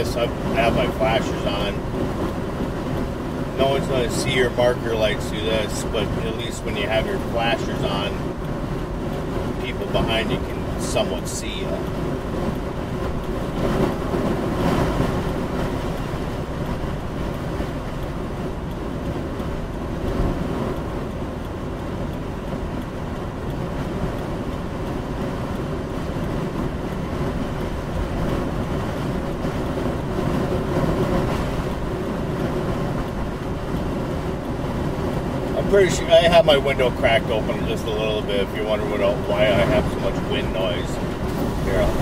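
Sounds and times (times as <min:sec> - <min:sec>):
road and tyre noise: 0:00.0 - 0:42.0
wind rushing through car window: 0:00.0 - 0:42.0.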